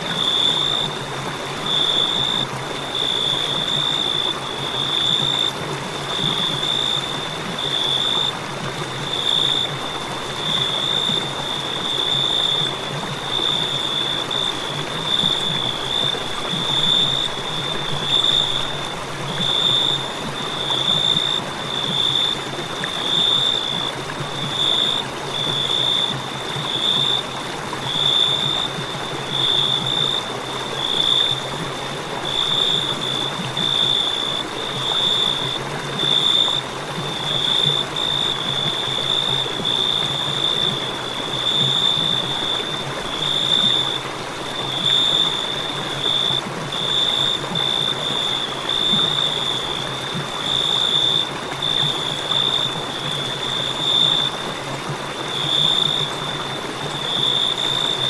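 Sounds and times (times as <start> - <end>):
cricket chirping: 0.1 - 1.0, 1.6 - 58.0.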